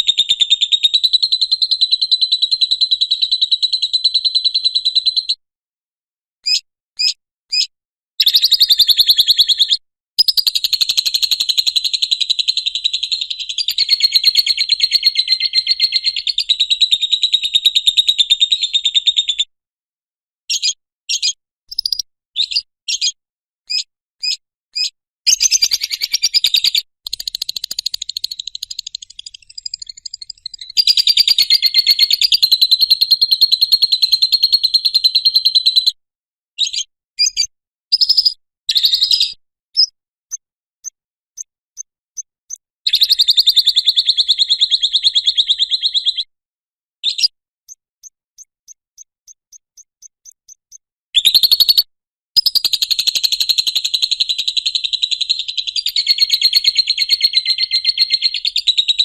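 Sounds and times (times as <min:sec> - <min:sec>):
bird chirps: 0:00.0 - 0:05.4, 0:06.4 - 0:19.5, 0:20.5 - 0:36.0, 0:36.6 - 0:46.3, 0:47.0 - 0:59.0.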